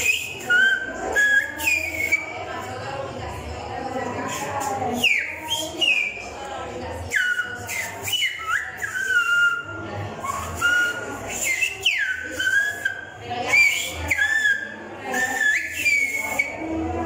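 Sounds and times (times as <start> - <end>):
whistled speech: 0.0 - 2.5, 4.3 - 6.3, 7.0 - 17.0.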